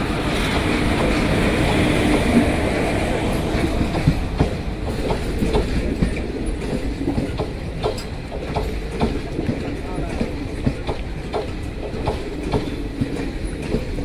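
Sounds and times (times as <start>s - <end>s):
train wheels rumbling on rails: 0.0s - 14.0s
wheels clicking over rail joints: 0.0s - 14.0s.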